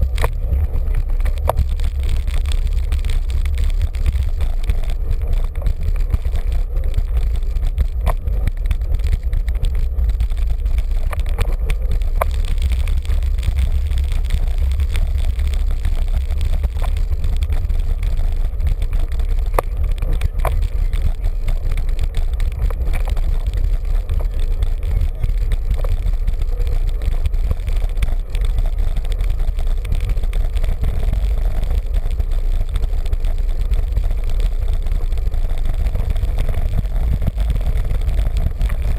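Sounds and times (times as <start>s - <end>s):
tyre and road noise: 0.0s - 38.9s
wind rumble on microphone: 0.0s - 38.9s.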